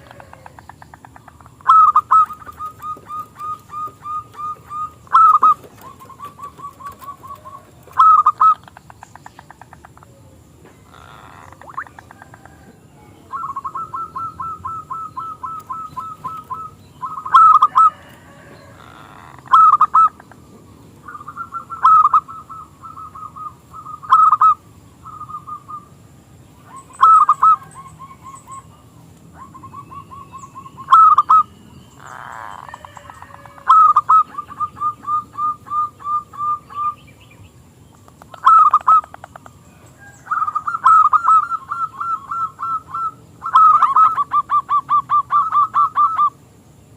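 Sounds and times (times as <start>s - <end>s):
dove cooing: 0.0s - 8.9s, 9.8s - 25.9s, 26.6s - 37.0s, 38.2s - 46.4s.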